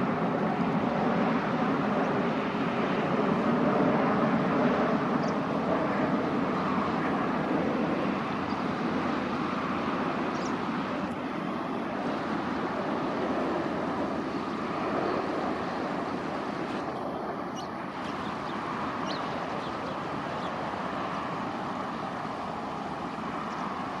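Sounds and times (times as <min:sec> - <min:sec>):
jet airliner engines rushing: 0:00.0 - 0:24.0.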